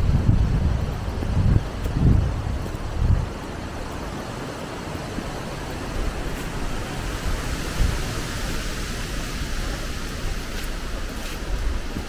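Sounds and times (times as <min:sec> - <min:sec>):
leaves rustling in wind: 0:00.0 - 0:12.0
wind buffeting microphone: 0:00.0 - 0:12.0.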